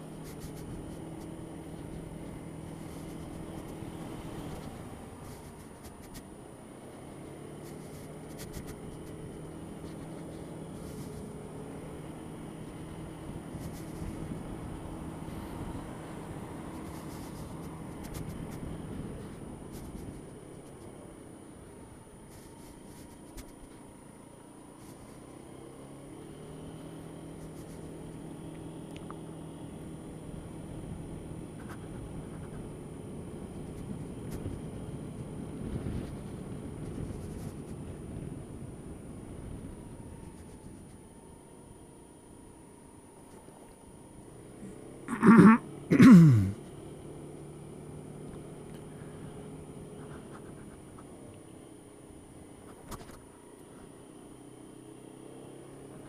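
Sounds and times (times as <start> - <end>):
road and wind noise: 0.0 - 56.0
scooter engine running: 0.0 - 56.0.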